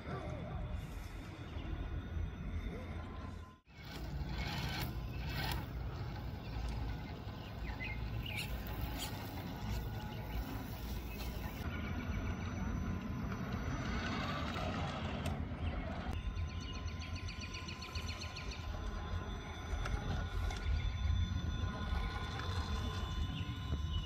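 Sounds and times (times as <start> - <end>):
electric motor and gears whirring: 0.0 - 24.0.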